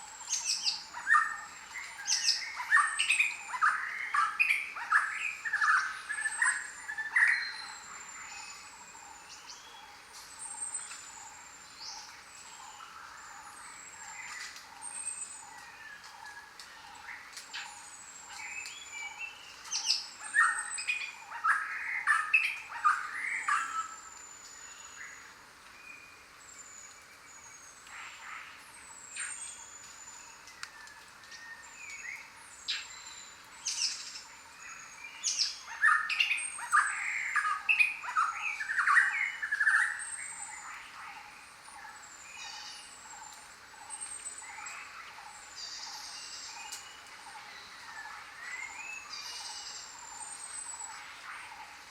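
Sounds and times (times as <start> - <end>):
jungle birds calling: 0.0 - 51.9.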